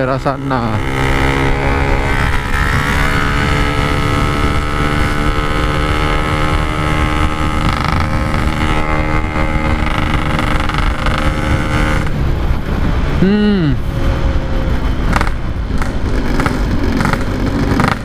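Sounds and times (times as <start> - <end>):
motorcycle engine running: 0.0 - 12.8, 14.5 - 18.0
wind on microphone: 0.0 - 18.0.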